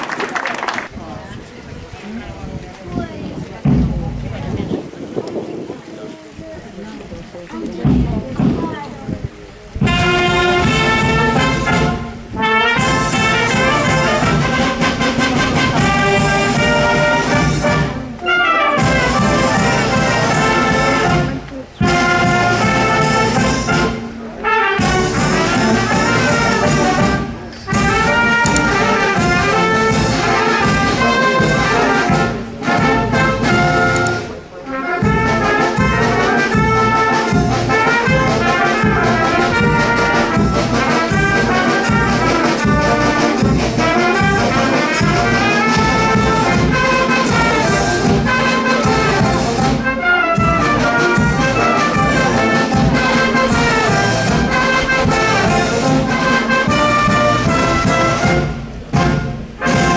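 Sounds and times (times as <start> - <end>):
brass band playing: 9.8 - 59.9.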